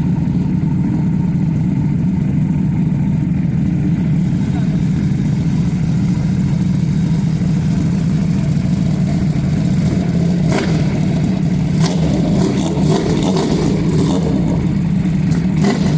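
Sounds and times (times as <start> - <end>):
motorcycle exhaust note: 0.0 - 15.9
sharp exhaust cracks: 0.0 - 15.9.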